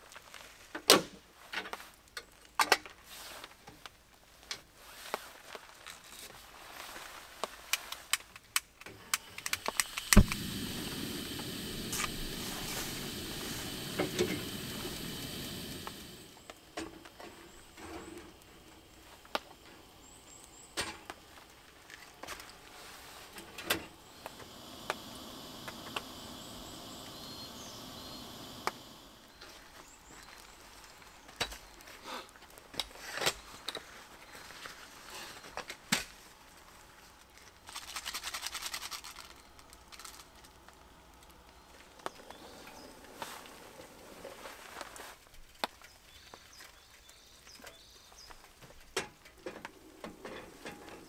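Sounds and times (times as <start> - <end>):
gas stove hissing: 8.8 - 46.7, 47.4 - 51.0.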